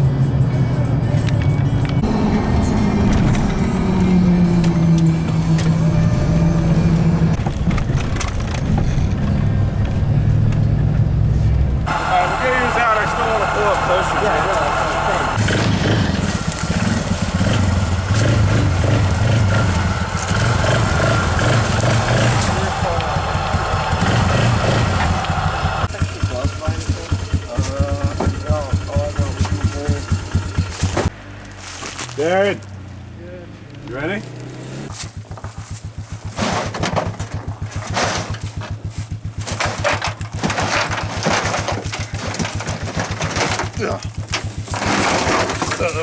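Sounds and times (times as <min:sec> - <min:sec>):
vehicle engine running: 0:00.0 - 0:46.0.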